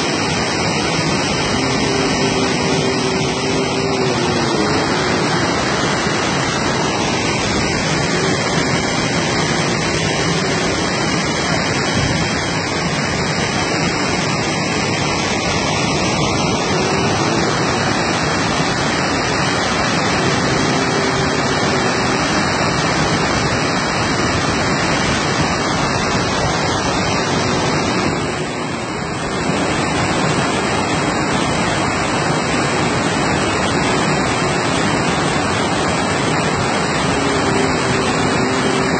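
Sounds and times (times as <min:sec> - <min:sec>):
water rushing over a weir: 0:00.0 - 0:38.9.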